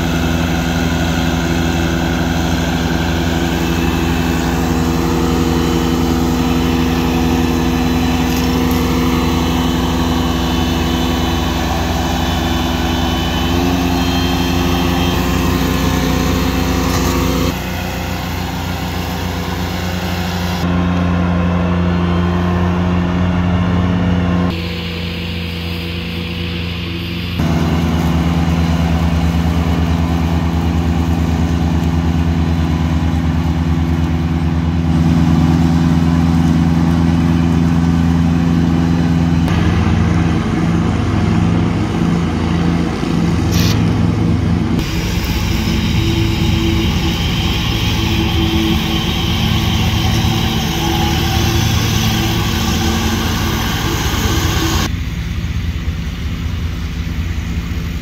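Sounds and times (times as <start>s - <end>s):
ride-on mower engine cutting grass: 0.0s - 58.0s.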